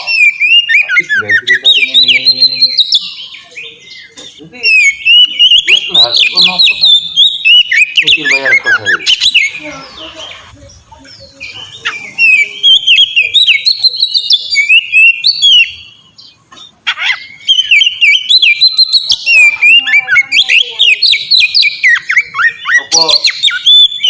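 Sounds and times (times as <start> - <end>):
songbird singing whistled phrases: 0.0 - 4.1, 4.7 - 10.5, 11.1 - 24.0.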